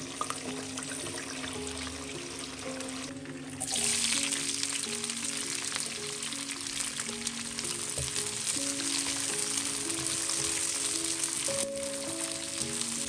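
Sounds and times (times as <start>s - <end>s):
beans sizzling in oil: 0.0s - 13.0s.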